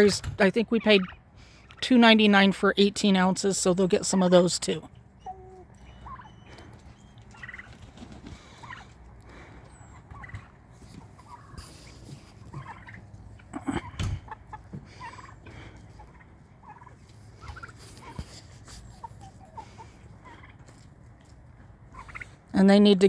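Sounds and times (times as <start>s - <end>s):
chickens and guinea fowl calling: 0.0s - 23.0s.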